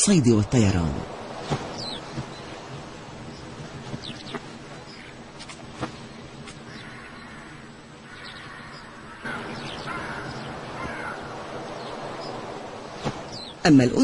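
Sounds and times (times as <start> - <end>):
steady background hiss: 0.0 - 14.0
birds calling: 0.3 - 14.0.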